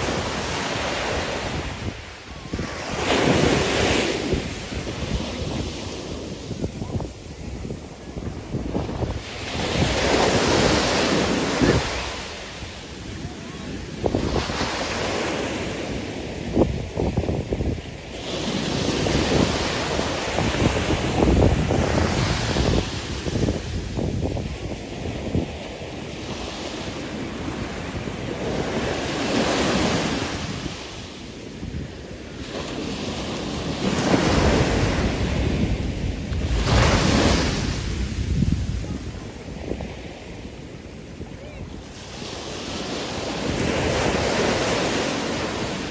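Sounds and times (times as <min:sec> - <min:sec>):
sea waves: 0:00.0 - 0:45.9
wind buffeting microphone: 0:00.0 - 0:45.9.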